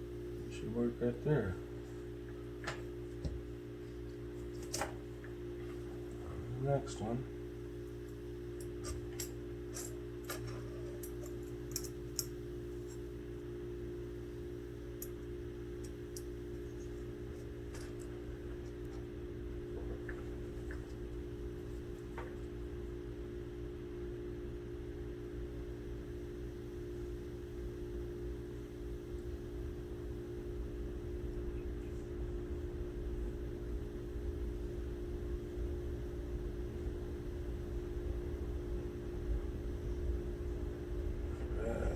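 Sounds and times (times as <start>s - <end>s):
device humming: 0.0s - 41.9s.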